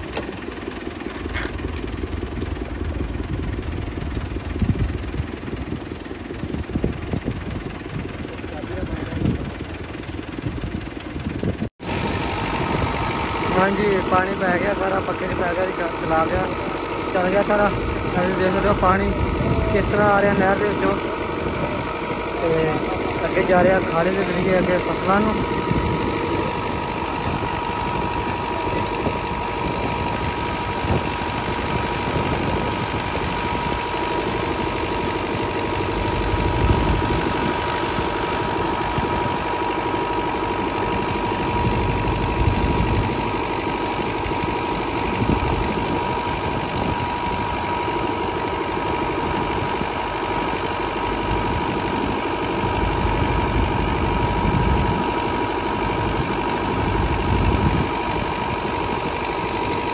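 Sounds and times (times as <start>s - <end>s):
steady high whine: 0.0s - 59.9s
tractor diesel engine running: 0.0s - 59.9s.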